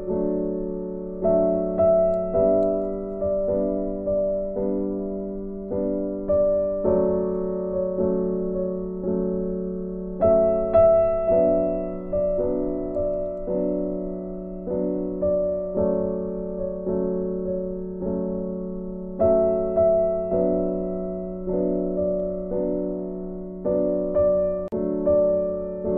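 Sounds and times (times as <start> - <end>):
gentle piano music: 0.0 - 25.9.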